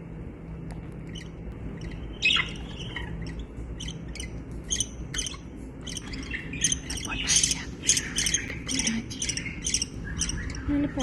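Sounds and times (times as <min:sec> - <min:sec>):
steady low hum: 0:00.0 - 0:11.0
budgerigars chirping and squawking: 0:01.0 - 0:11.0.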